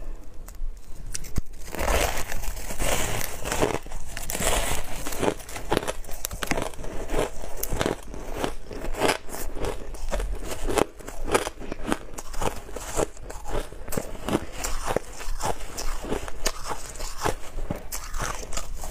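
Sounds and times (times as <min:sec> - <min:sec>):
chewing crunchy ice: 0:01.7 - 0:18.9.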